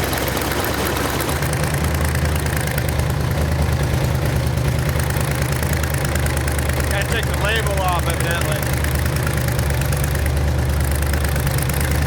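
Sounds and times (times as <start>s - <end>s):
engine running on open headers: 0.0s - 12.0s.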